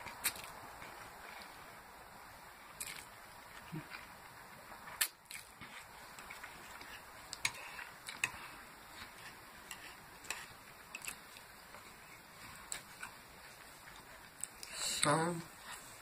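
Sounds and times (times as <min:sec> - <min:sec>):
chewing: 0:00.0 - 0:01.7, 0:02.7 - 0:16.0.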